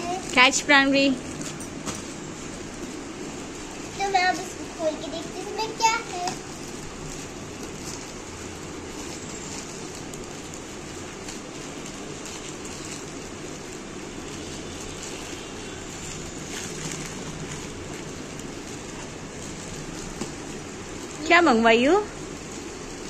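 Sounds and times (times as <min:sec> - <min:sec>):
plastic bag rustling and crinkling: 0:00.0 - 0:23.0.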